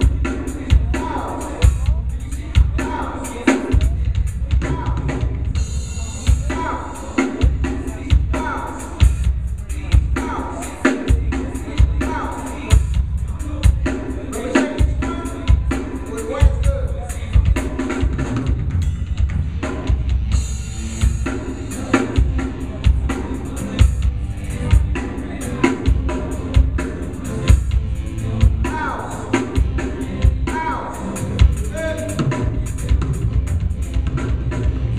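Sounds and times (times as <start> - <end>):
background music: 0.0 - 34.9
drum kit playing a steady beat: 0.0 - 34.9.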